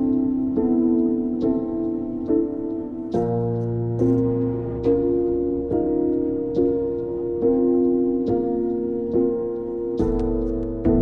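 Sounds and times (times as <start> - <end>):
soft keyboard chords: 0.0 - 11.0.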